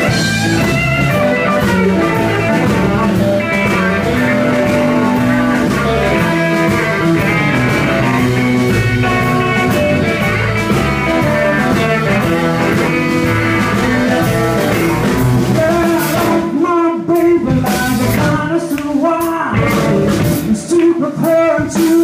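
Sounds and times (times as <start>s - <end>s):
electric blues band playing: 0.0s - 22.0s.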